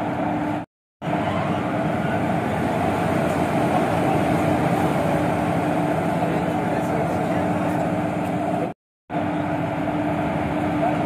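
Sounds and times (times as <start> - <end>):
electric locomotive humming: 0.0 - 11.0.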